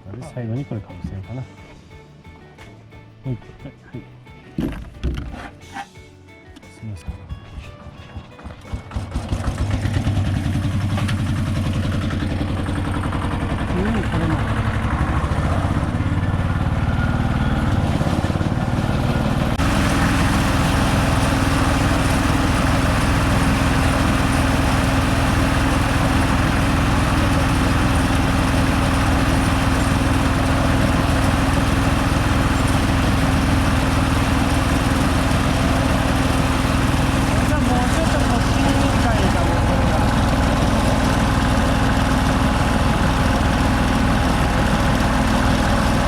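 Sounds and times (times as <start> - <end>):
harvester engine and threshing: 6.9 - 46.0.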